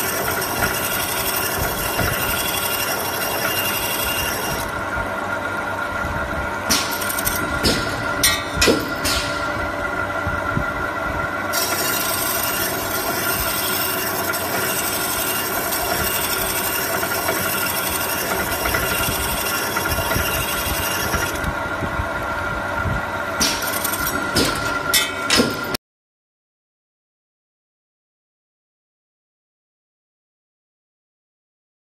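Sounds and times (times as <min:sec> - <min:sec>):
sawing machine whine: 0:00.0 - 0:25.7.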